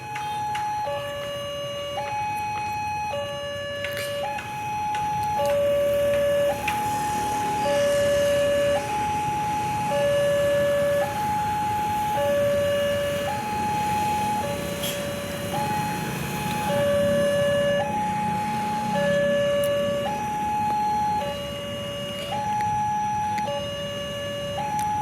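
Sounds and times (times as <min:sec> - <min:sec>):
electronic two-tone warning signal: 0:00.0 - 0:25.0.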